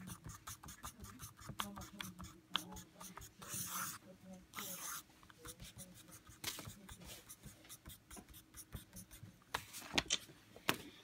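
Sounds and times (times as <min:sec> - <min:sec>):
pencil scratching on paper: 0:00.0 - 0:09.7.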